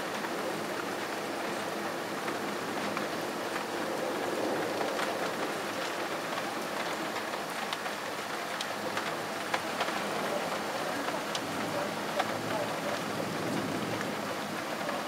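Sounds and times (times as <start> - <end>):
raindrops ticking on hard surface: 0.0 - 15.0
steady rain falling: 0.0 - 15.0.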